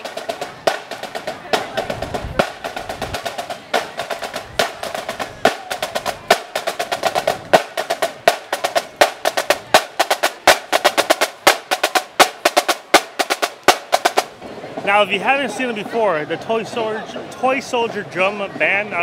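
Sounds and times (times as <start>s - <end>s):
marching snare drums: 0.0s - 16.0s.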